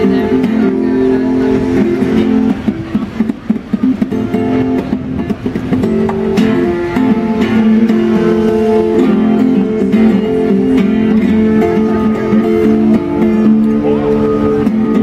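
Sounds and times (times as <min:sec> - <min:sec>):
amplified lap guitar notes: 0:00.0 - 0:15.0.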